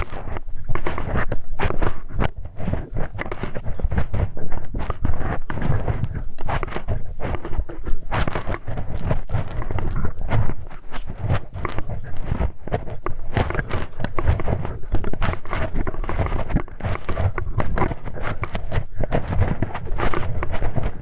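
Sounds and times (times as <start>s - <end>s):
crackly clicks: 0.0s - 21.0s
scratching and rubbing on microphone: 0.0s - 21.0s.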